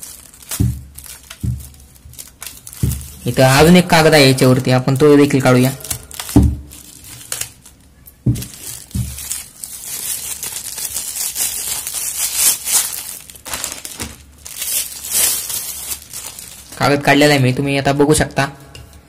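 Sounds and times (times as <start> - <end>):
plastic wrapping crinkling and tearing: 0.0 - 17.4.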